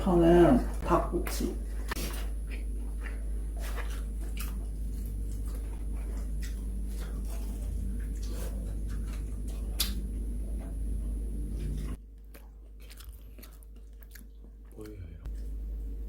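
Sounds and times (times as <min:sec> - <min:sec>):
steady low hum: 0:00.0 - 0:16.0
chewing fried chicken: 0:00.1 - 0:16.0.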